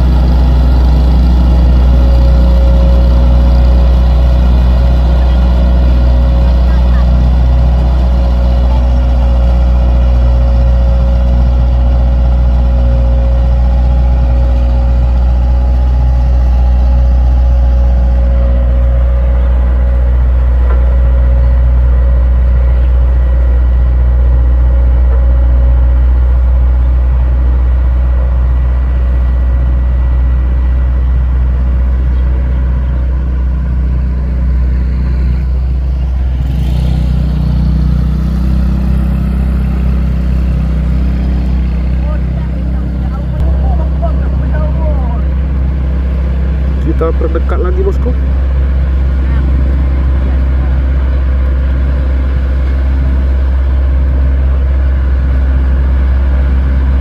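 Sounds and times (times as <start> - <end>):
road roller diesel engine humming: 0.0 - 57.0.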